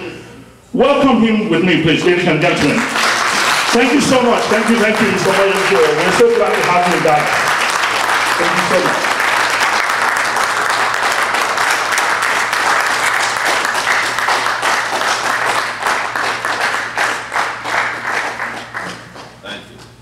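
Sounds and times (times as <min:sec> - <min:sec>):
crowd applauding: 0:02.4 - 0:19.6.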